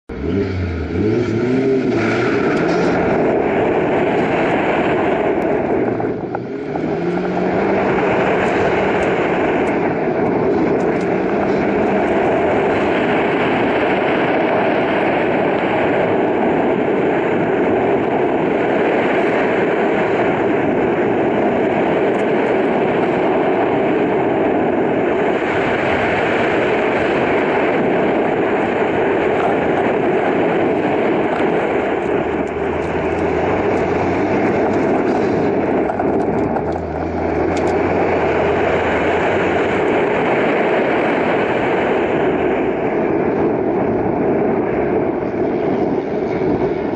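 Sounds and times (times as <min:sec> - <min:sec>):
road and wind noise: 0:00.0 - 0:46.9
car engine pulling hard: 0:00.1 - 0:46.9.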